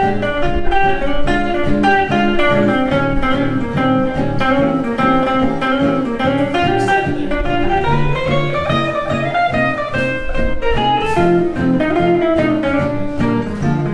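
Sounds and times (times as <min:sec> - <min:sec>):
guitar chord comping: 0:00.0 - 0:13.9
jazz guitar melody: 0:00.0 - 0:13.9.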